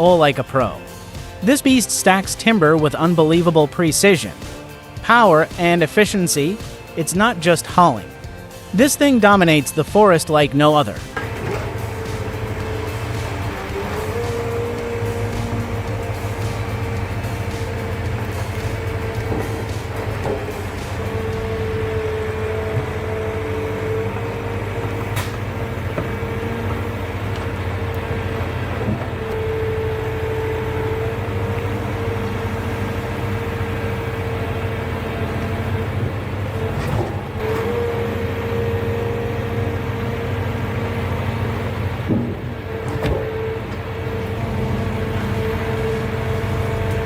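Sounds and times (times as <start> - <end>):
forestry machine engine whine: 0.0 - 47.0.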